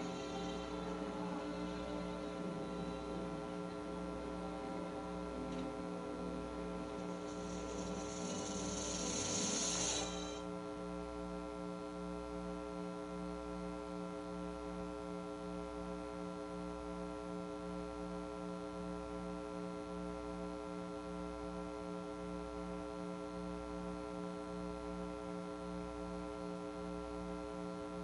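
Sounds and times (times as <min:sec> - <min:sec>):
pulsing electronic hum: 0:00.0 - 0:28.0.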